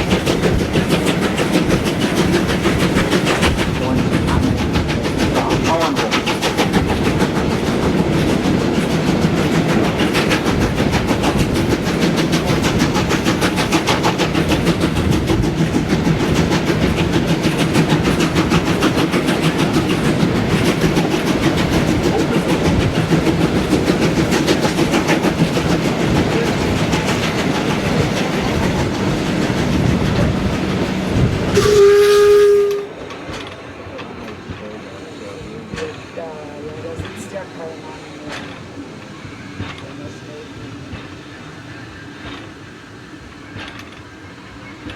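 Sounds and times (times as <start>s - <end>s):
train wheels clickety-clack: 0.0s - 44.9s.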